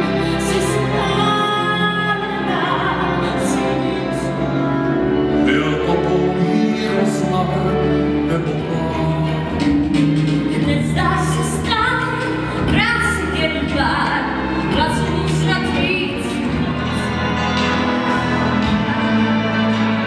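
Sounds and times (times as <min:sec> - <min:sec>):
accompanying music: 0:00.0 - 0:20.0
operatic-style singing: 0:00.0 - 0:20.0.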